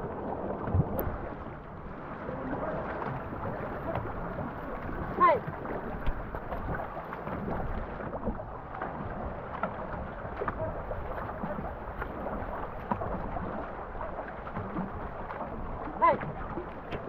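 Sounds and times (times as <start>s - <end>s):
paddle knocks and drips: 0.0s - 17.0s
water splashing along canoe hull: 0.0s - 17.0s.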